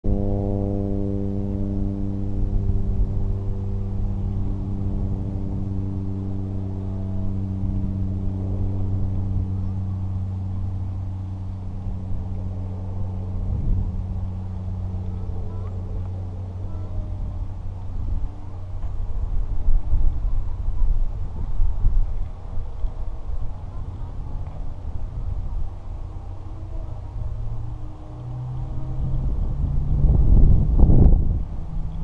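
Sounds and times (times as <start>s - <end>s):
low motor drone: 0.0s - 32.0s
low rumbling noise: 0.0s - 32.0s.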